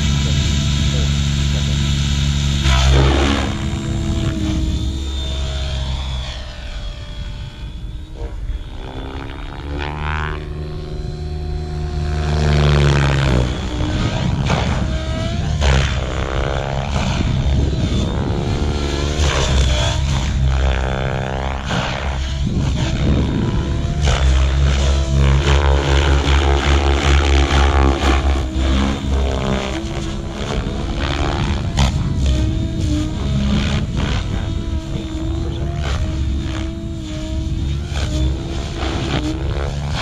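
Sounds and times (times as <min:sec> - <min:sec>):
model helicopter rotor whining: 0:00.0 - 0:40.0.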